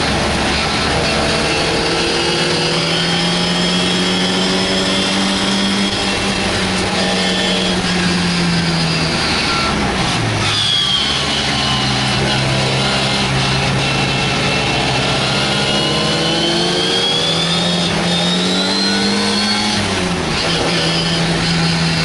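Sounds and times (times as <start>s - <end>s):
racing car engine at high revs: 0.0s - 22.0s
wind and road noise: 0.0s - 22.0s.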